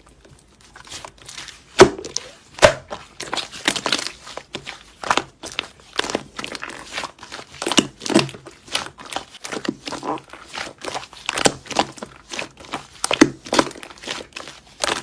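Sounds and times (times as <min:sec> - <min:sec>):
slime squeezed crackling: 0:00.1 - 0:15.0.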